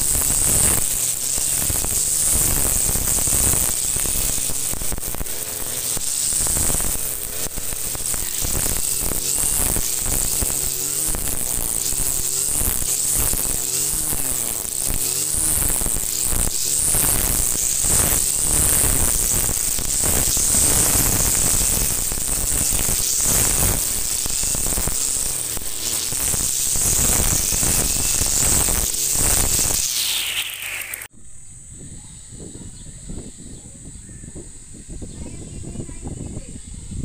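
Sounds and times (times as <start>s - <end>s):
brush cutter engine running: 0.0s - 31.1s.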